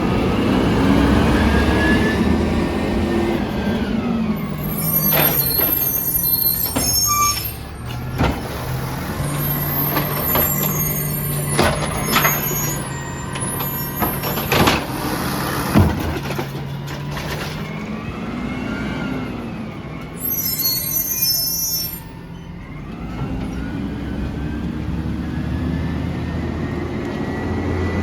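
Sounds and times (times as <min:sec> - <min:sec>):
garbage truck engine hum: 0:00.0 - 0:28.0.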